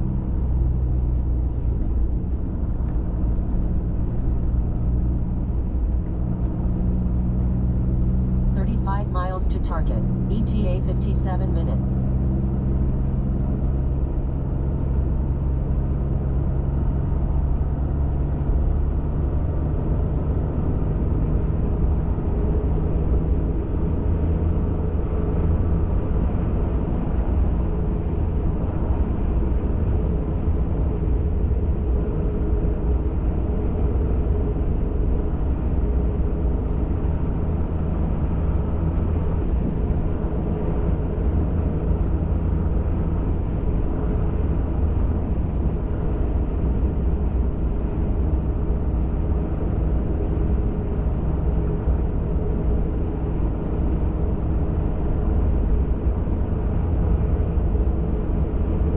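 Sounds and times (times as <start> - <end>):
truck engine drone: 0.0 - 58.9.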